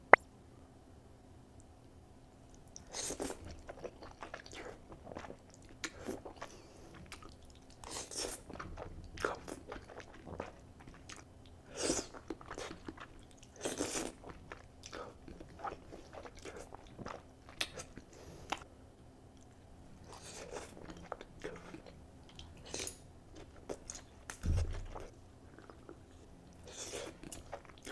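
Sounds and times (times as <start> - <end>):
chewing noodles close-up: 2.5 - 18.7, 19.4 - 27.9.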